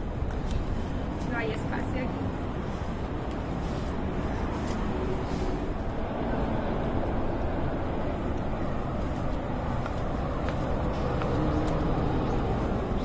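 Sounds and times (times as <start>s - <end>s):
low rumbling outdoor noise: 0.0s - 13.0s.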